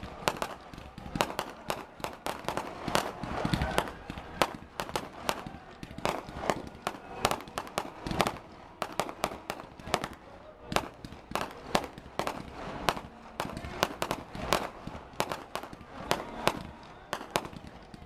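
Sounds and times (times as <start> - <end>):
fireworks bursting with bangs: 0.0 - 18.0.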